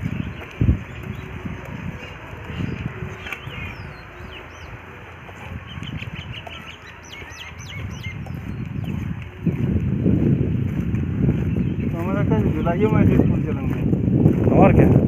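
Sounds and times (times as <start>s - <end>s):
low rumbling noise: 0.0s - 15.0s
small birds chirping: 0.0s - 15.0s.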